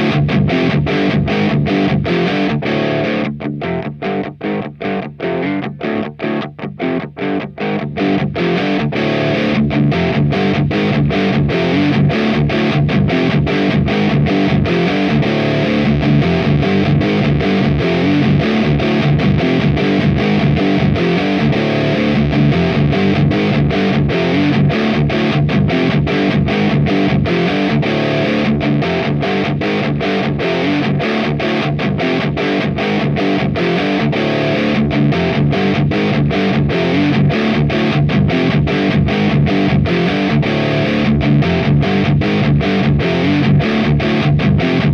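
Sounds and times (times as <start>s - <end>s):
distorted electric guitar riff: 0.0s - 44.9s.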